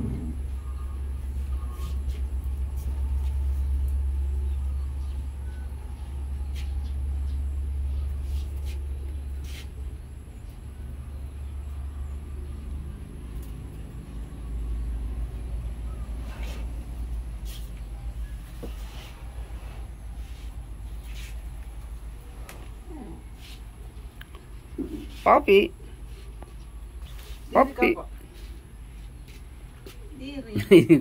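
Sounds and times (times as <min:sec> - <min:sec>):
large vehicle engine rumbling: 0:00.0 - 0:30.9.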